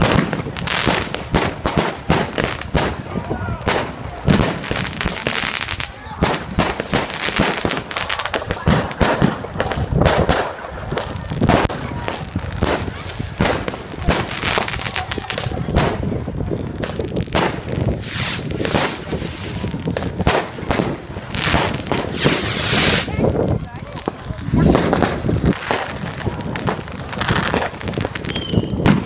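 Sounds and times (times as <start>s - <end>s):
continuous crackling: 0.0s - 29.0s
fireworks bangs and cracks: 0.0s - 29.0s.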